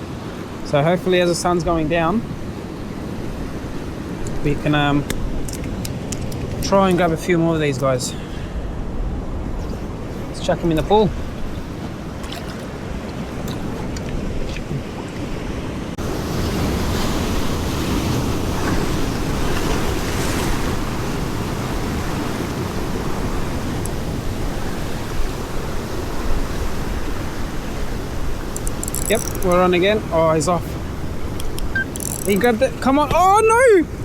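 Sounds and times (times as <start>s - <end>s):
ocean surf against rocks: 0.0s - 34.0s
wind rumble on microphone: 1.5s - 34.0s.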